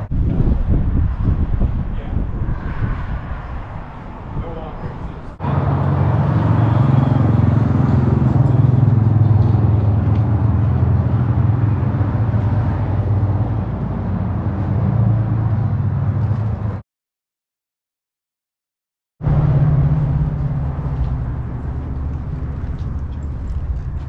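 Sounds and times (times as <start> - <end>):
car driving rumble: 0.0 - 16.8, 19.2 - 24.0.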